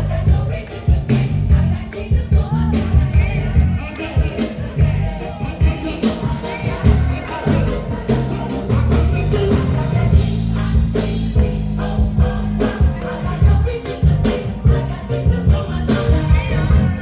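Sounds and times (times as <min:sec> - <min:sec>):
gospel singing: 0:00.0 - 0:17.0
heavy bass line: 0:00.0 - 0:17.0
steady drum beat: 0:00.0 - 0:17.0.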